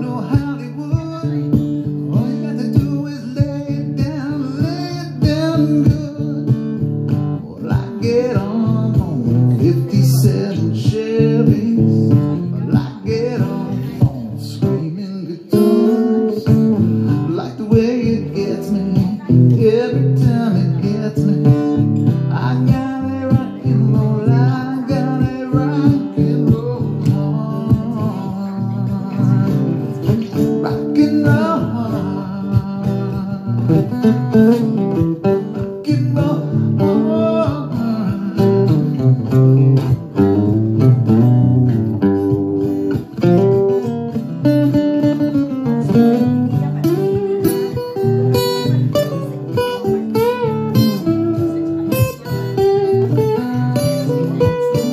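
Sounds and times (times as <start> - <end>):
acoustic guitar: 0.0 - 54.9
man singing: 0.0 - 54.9.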